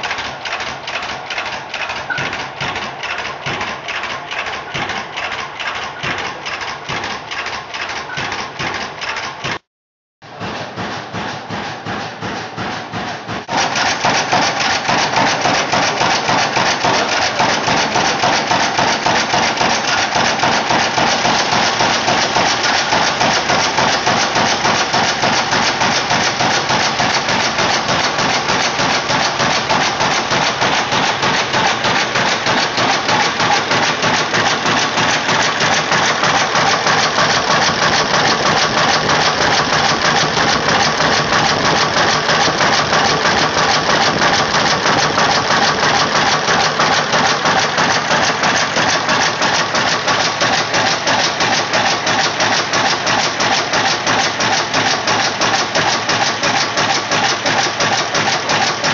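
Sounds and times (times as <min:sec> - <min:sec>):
engine rhythmic clatter: 0:00.0 - 0:09.6, 0:10.2 - 0:58.9.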